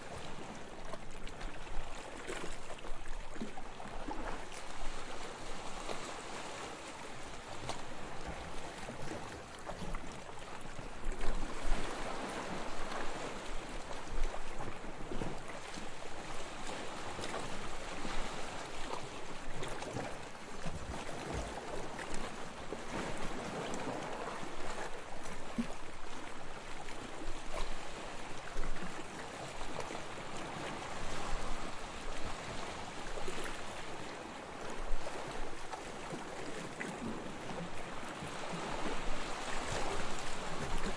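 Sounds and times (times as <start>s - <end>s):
waves washing onto beach: 0.0s - 40.9s.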